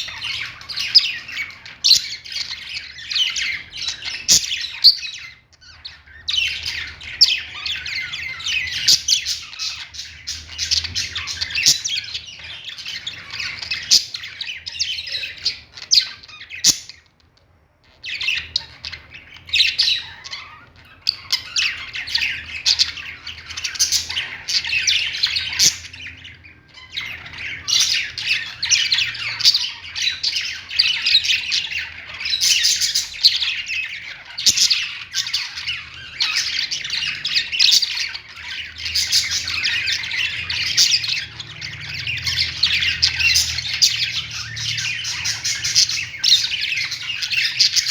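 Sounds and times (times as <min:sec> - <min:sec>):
birds chirping and squawking: 0:00.0 - 0:47.9.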